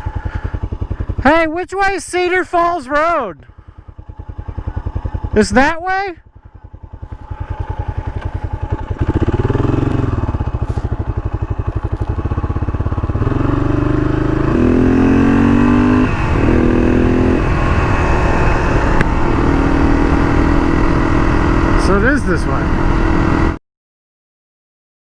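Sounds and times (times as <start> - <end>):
motorcycle engine accelerating: 0.0 - 23.6.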